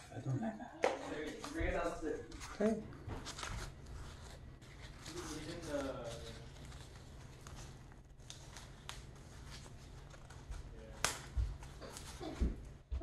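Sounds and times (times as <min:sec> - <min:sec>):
fabric sheath rustling: 0:01.2 - 0:12.3.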